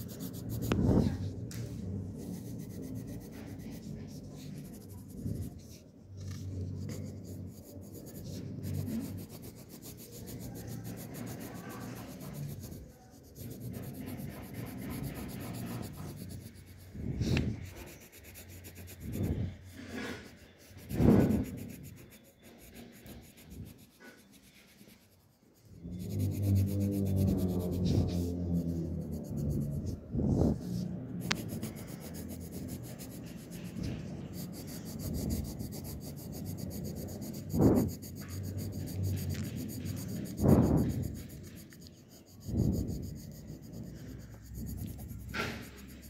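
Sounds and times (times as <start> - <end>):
pencil scratching on paper: 0.0 - 46.0.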